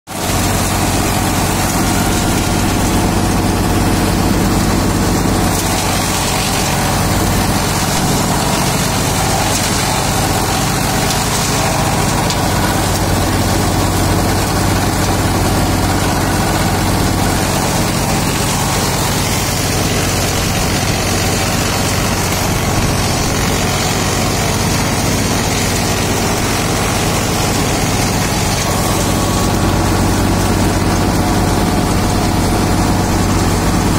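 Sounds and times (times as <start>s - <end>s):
wood chipper shredding branches: 0.1s - 33.9s
low machine hum: 0.2s - 33.9s.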